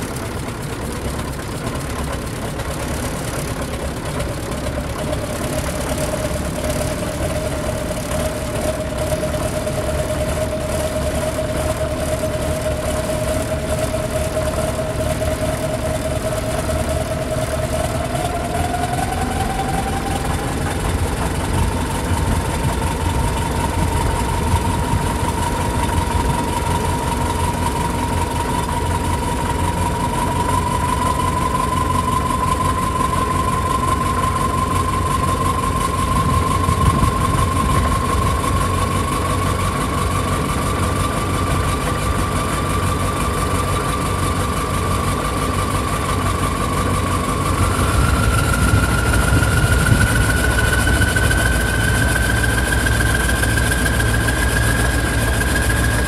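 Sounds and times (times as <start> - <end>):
diesel engine idling: 0.0 - 56.0
whine rising in pitch: 0.0 - 56.0.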